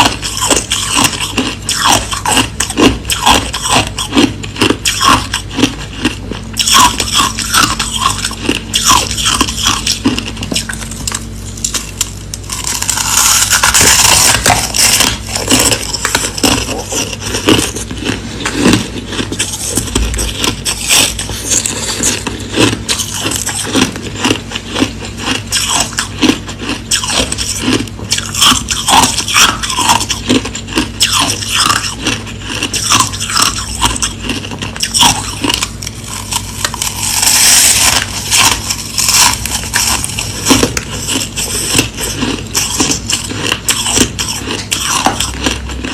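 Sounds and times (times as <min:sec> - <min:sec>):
crushed ice being chewed: 0:00.0 - 0:45.9
faint steady hum: 0:00.0 - 0:45.9.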